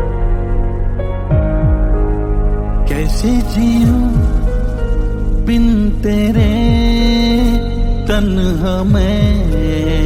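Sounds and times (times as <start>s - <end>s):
falling bass notes: 0.0s - 10.0s
slow romantic song instrumental: 0.0s - 10.0s.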